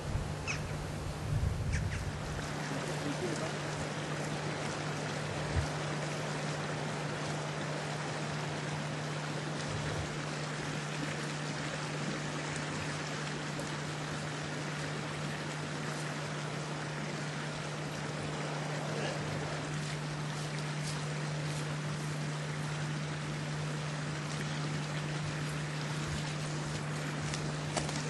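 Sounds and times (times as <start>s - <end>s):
constant low hum: 0.0s - 28.0s.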